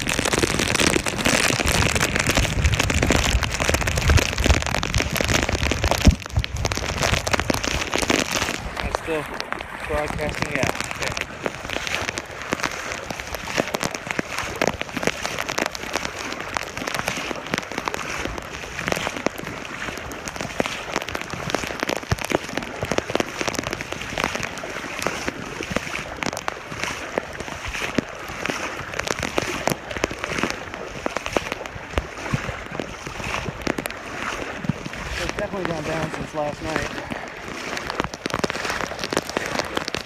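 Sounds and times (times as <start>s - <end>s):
heavy rain falling: 0.0s - 40.0s
raindrops tapping near microphone: 0.0s - 40.0s.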